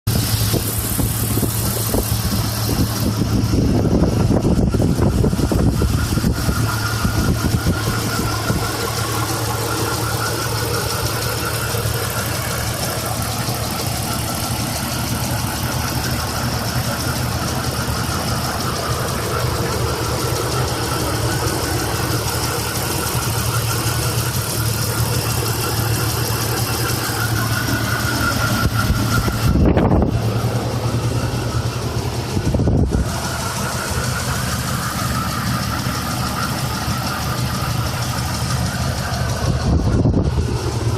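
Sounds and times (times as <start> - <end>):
car engine idling with ticking: 0.0 - 40.9
low engine rumble: 0.0 - 40.9.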